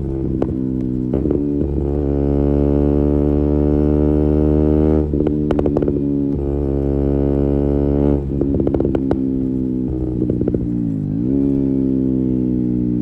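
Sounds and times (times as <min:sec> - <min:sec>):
motorcycle engine droning: 0:00.0 - 0:13.0
sharp exhaust crackles: 0:00.0 - 0:13.0.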